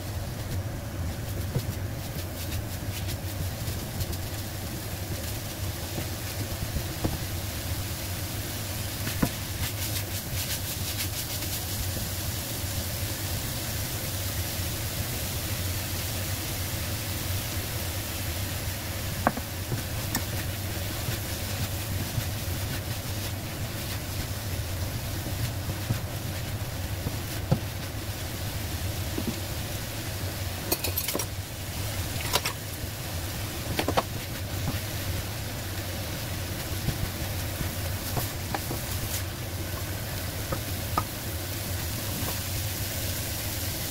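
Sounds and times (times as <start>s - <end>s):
meat and onion sizzling in a wok: 0.0s - 43.9s
steady low hum: 0.0s - 43.9s.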